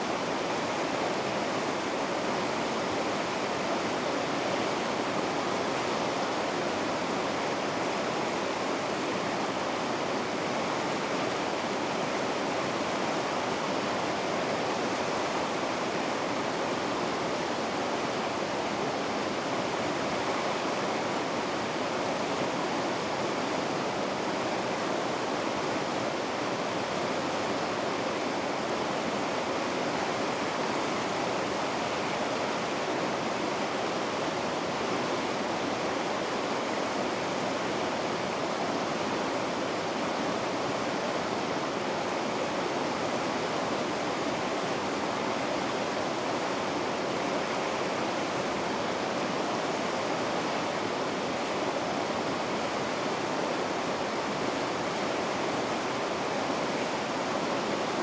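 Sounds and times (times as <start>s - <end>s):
river rapids rushing: 0.0s - 58.0s.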